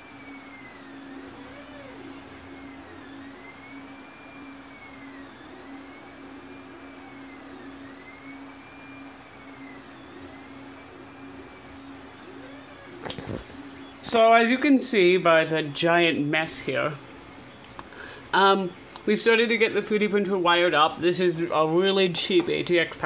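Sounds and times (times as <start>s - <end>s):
electronics and power supply hum: 0.0s - 23.0s.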